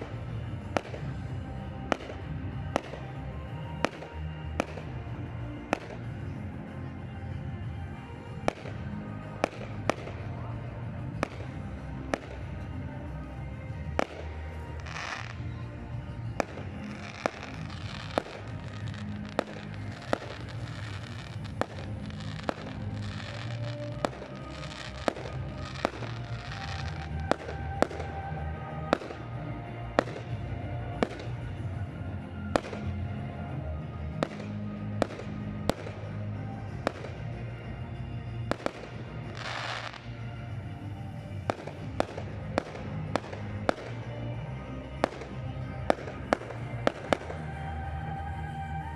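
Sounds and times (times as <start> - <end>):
fireworks bangs: 0.0 - 5.1, 8.3 - 31.7, 34.1 - 37.5, 38.5 - 40.5, 41.1 - 44.1, 45.0 - 47.6
music playing: 0.0 - 48.9.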